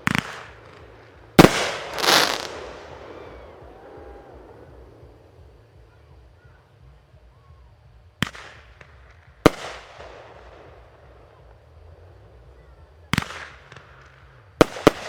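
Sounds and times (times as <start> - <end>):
faint fireworks pops: 0.0 - 15.0
fireworks bursting with echo: 0.0 - 15.0.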